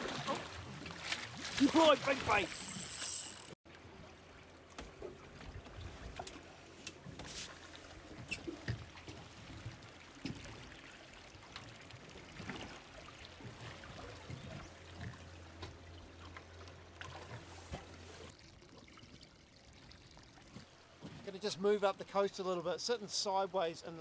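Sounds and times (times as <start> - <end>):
water lapping against boat: 0.0 - 3.0, 3.7 - 21.4.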